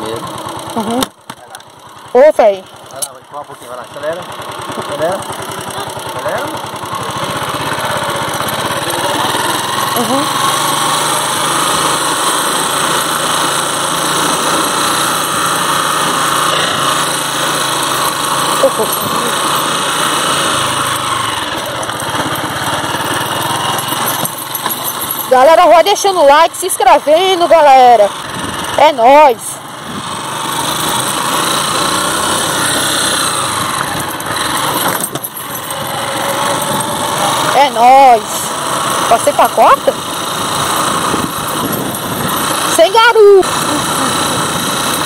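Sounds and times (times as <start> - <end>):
small motorcycle engine running: 0.0 - 45.0.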